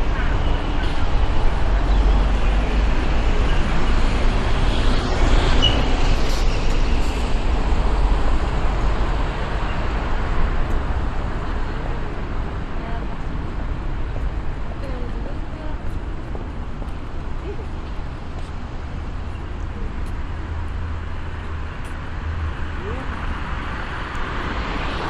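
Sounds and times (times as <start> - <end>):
urban background noise: 0.0 - 25.0.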